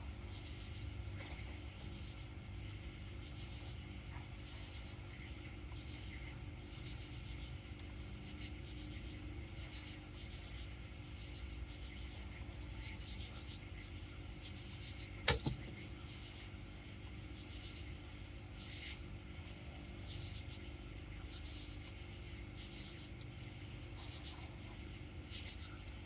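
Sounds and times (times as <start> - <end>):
low steady background noise: 0.0 - 26.0
night insects chirping: 0.0 - 26.0.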